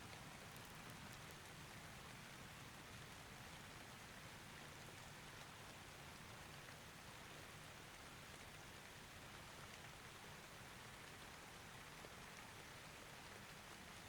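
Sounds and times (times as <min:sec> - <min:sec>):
faint steady rain: 0:00.0 - 0:14.0.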